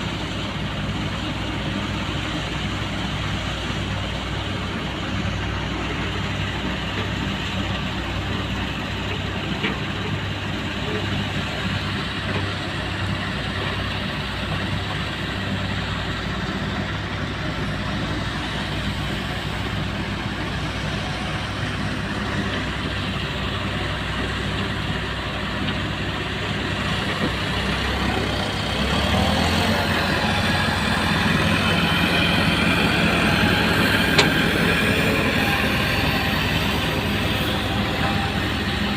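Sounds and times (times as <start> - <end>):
excavator diesel engine revving: 0.0 - 38.9.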